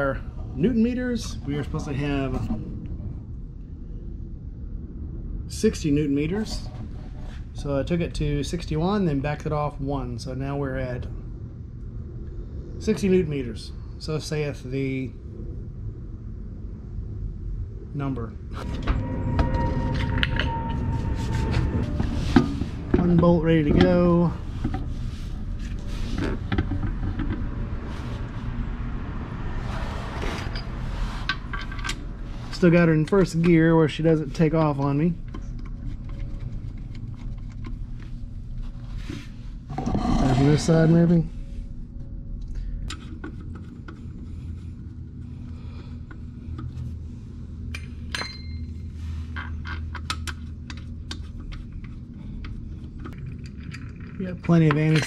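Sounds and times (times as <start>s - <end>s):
steady low hum: 0.0s - 55.0s
steady low rumble: 0.0s - 55.0s.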